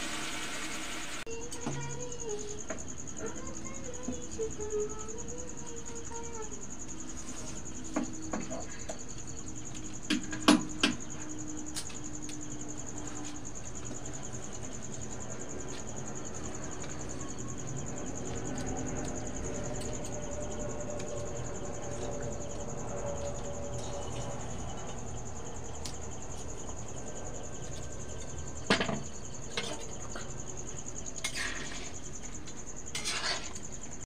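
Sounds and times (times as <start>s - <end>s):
high-pitched insect trill: 0.1s - 34.0s.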